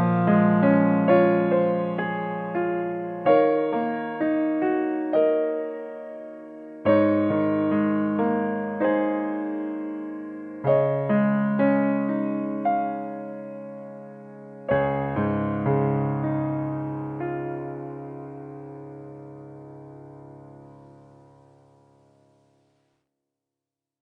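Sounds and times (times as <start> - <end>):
gentle piano piece: 0.0 - 22.8.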